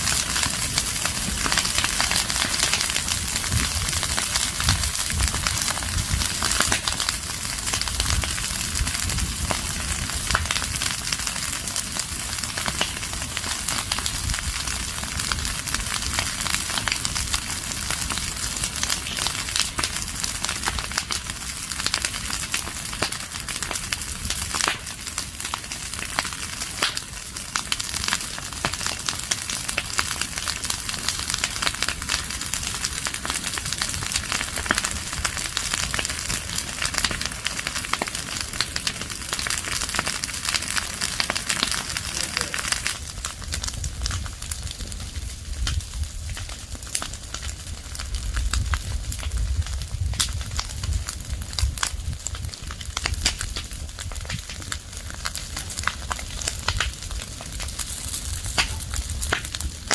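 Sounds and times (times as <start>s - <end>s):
fire crackling and popping: 0.0s - 59.9s
steady hiss of fire: 0.0s - 59.9s.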